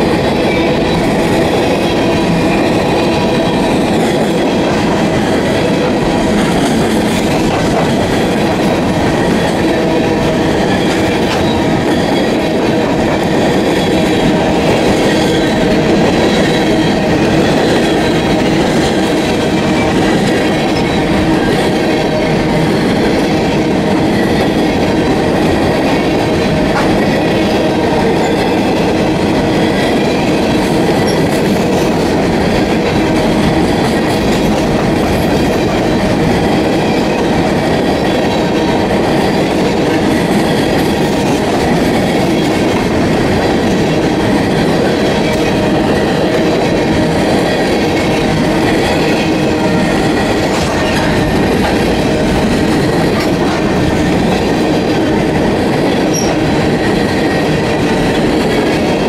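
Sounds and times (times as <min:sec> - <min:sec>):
freight cars rattling: 0:00.0 - 0:59.0
train wheels clacking on rails: 0:00.0 - 0:59.0.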